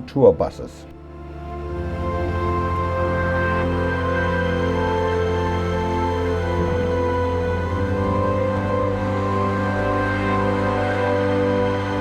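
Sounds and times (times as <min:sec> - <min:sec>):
music of sustained held notes: 0:00.0 - 0:12.0.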